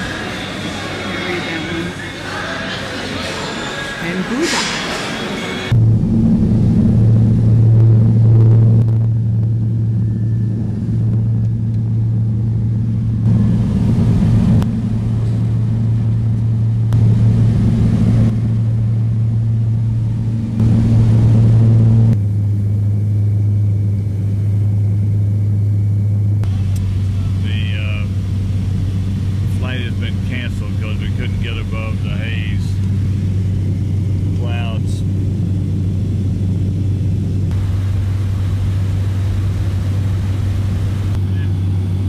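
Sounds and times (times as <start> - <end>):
low engine drone: 0.0 - 42.0.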